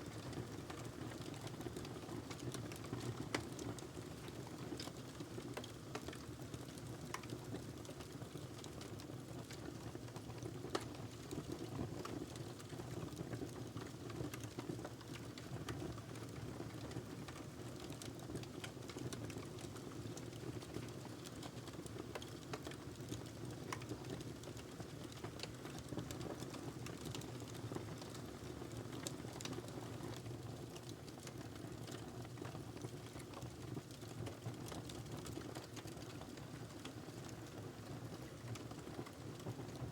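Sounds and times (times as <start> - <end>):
fireplace fire crackling: 0.1 - 39.8.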